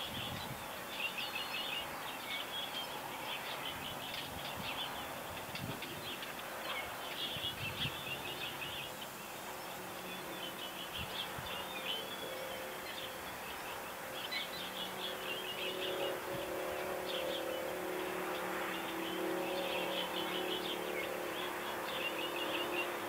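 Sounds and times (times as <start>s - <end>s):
small birds chirping: 0.0s - 23.0s
steady outdoor hiss: 0.0s - 23.0s.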